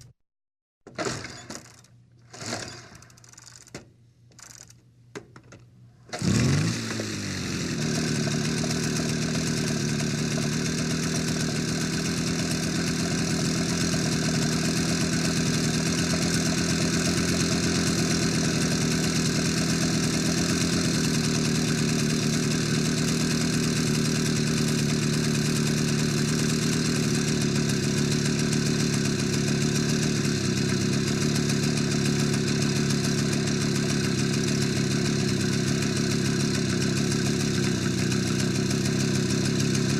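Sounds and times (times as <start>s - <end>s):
motorcycle engine starting and idling: 0.9s - 39.9s.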